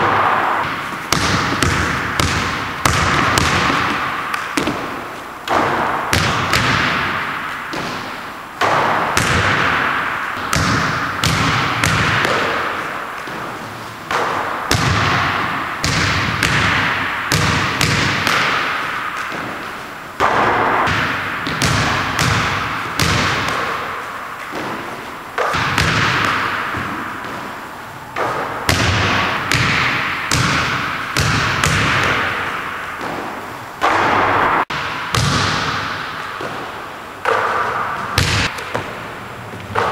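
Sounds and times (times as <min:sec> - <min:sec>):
basketball bouncing on hardwood floor: 0:00.0 - 0:27.6, 0:28.2 - 0:34.2, 0:34.8 - 0:39.9
basketball hitting hoop: 0:00.0 - 0:39.1.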